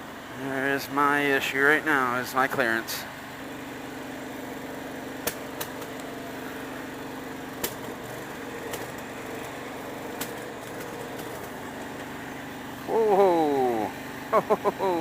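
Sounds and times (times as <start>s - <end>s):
small tractor engine running: 0.0s - 15.0s.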